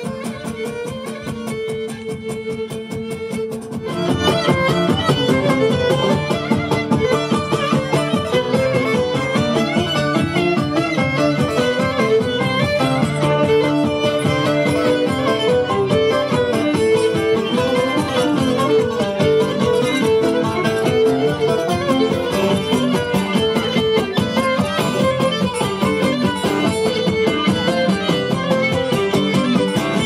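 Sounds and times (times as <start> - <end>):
bowed string melody: 0.0 - 30.0
plucked strings strummed: 0.0 - 30.0.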